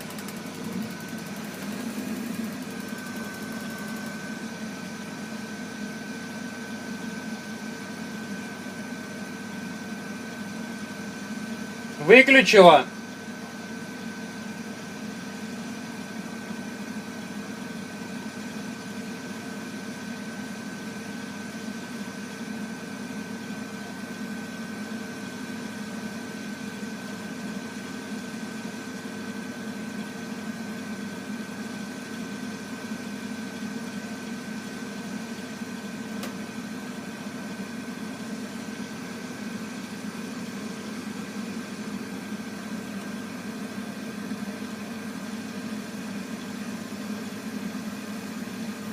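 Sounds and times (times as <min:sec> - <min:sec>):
heating boiler humming: 0:00.0 - 0:48.9.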